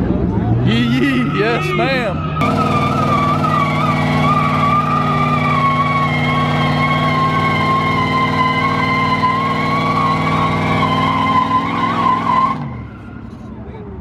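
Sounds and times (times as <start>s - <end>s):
car engine revving: 0.0s - 13.5s
tyres squealing: 0.8s - 13.3s.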